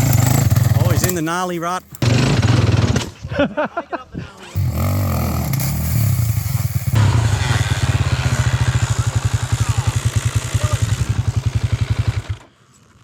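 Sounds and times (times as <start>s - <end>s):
dirt bike engine running: 0.0s - 3.2s, 4.5s - 12.5s.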